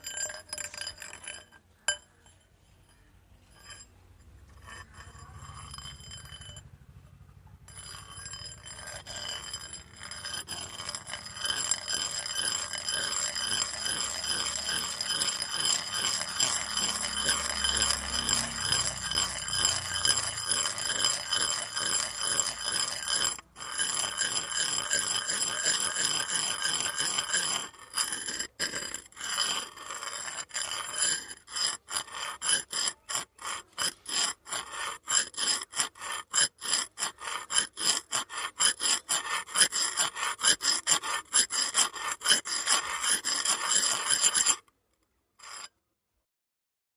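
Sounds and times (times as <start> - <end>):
metal rod scraping: 0.0 - 44.7, 45.4 - 45.8.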